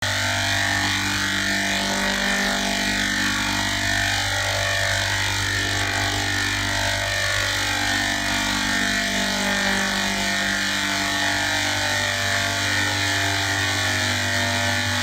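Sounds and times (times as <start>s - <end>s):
machine-like hum: 0.0s - 15.0s.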